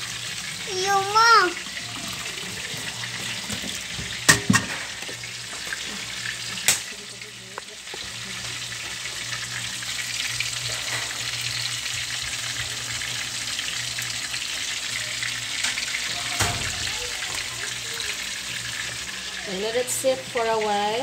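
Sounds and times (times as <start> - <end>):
meat sizzling in a pan: 0.0 - 21.0.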